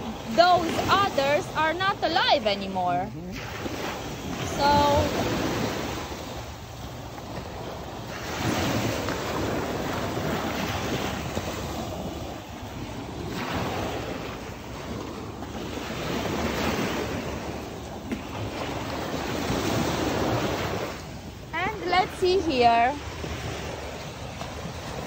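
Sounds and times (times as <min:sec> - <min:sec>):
small waves washing onto sand: 0:00.0 - 0:25.0.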